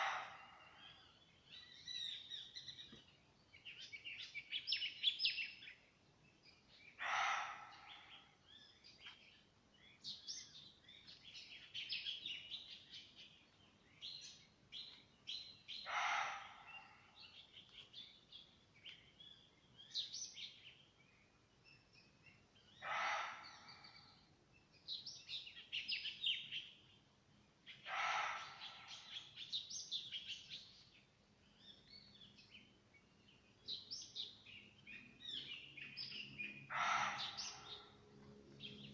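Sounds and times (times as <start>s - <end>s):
forest birds chirping: 0.0s - 38.9s.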